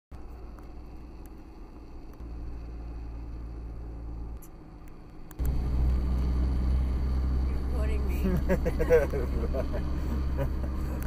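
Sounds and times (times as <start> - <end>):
road and engine rumble in cab: 0.1 - 11.0.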